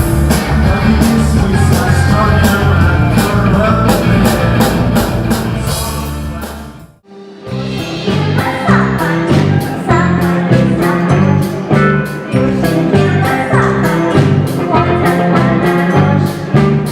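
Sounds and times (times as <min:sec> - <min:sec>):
music piece: 0:00.0 - 0:16.9
rock music with drums and guitar: 0:00.0 - 0:16.9.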